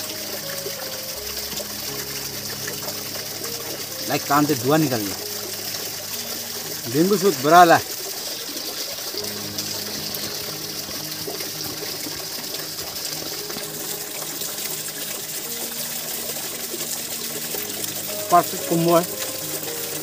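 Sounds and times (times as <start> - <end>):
flowing water rushing: 0.0 - 20.0.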